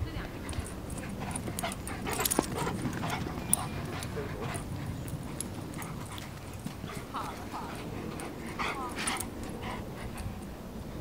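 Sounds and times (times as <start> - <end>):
dogs yipping: 0.9 - 10.4.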